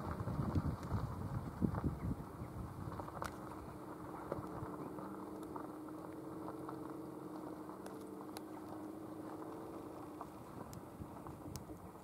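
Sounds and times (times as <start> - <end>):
distant engine drone: 0.0 - 12.0.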